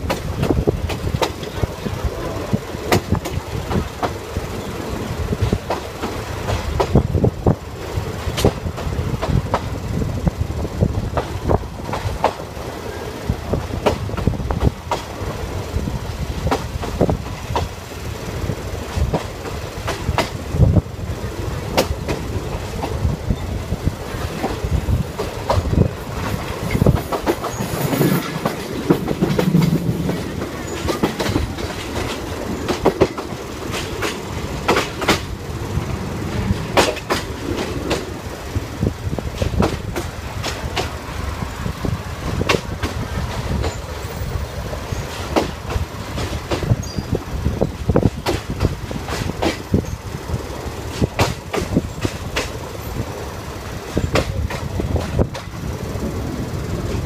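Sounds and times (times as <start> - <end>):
train low rumble: 0.0 - 57.0
wheels clicking over rail joints: 0.0 - 57.0.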